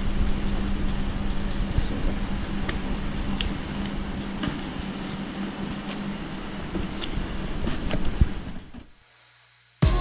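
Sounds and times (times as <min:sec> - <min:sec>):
low hum and rumble: 0:00.0 - 0:09.4.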